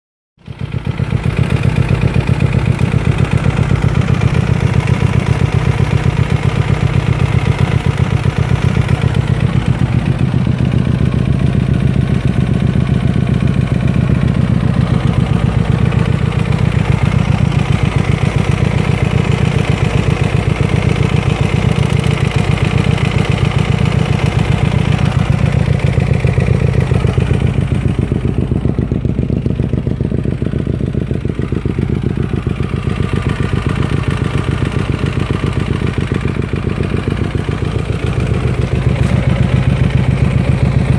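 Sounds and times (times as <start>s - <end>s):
motorcycle engine knocking: 0.4s - 40.9s.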